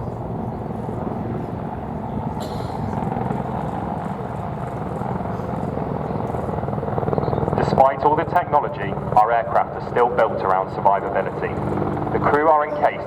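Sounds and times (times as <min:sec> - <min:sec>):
helicopter rotor and engine noise: 0:00.0 - 0:13.0.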